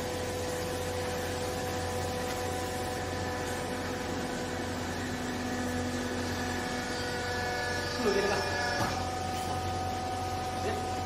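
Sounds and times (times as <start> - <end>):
hydraulic baler motor humming: 0.0 - 11.0.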